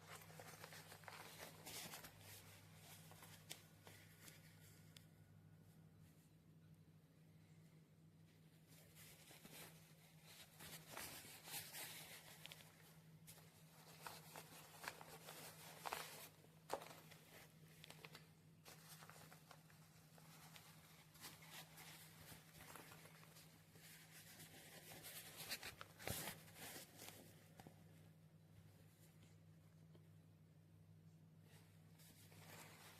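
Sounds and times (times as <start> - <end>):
faint rustling and clicks: 0.0 - 6.3, 7.4 - 30.2.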